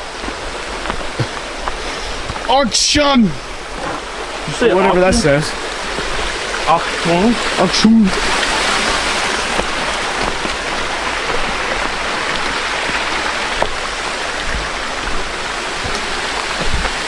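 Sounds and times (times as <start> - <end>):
waterfall rushing water: 0.0 - 17.0.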